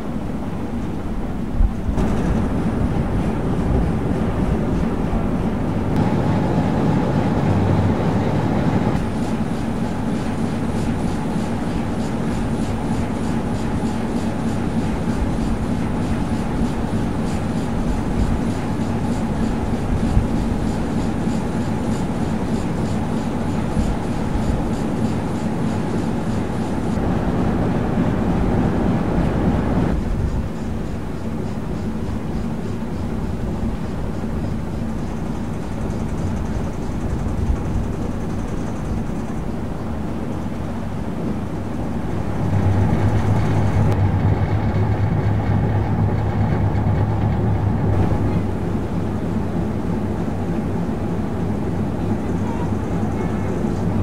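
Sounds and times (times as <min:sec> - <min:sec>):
marine diesel engine droning: 0:00.0 - 0:54.0.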